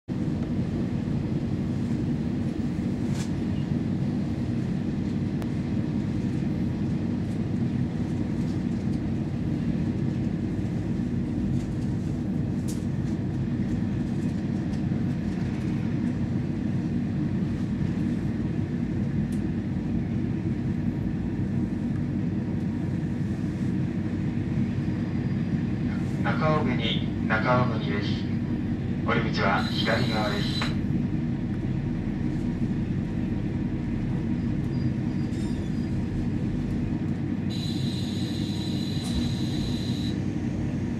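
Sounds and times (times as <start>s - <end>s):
train rumbling on rails: 0.1s - 40.9s.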